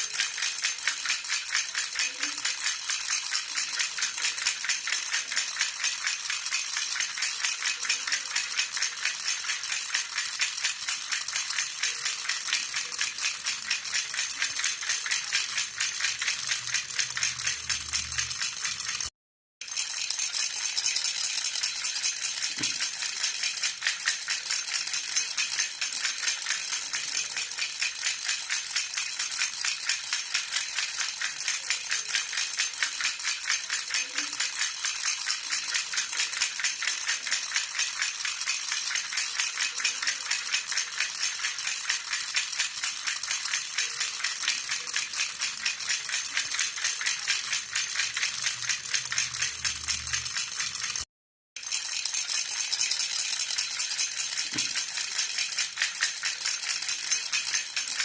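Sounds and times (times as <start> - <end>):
baby rattle jingling: 0.0 - 58.0.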